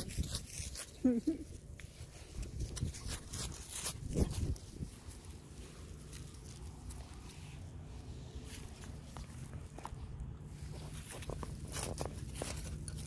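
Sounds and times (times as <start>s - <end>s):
footsteps in grass: 0.0s - 13.0s
steady low rumble: 1.6s - 13.0s.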